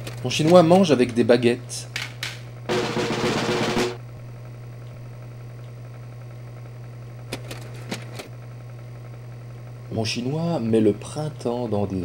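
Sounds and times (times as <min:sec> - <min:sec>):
steady low hum: 0:01.0 - 0:12.0.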